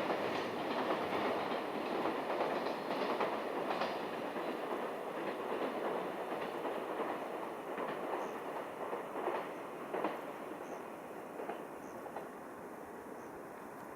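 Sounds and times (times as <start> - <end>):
train wheels clacking on rail joints: 0.0 - 12.4
train rolling rumble: 0.0 - 13.9.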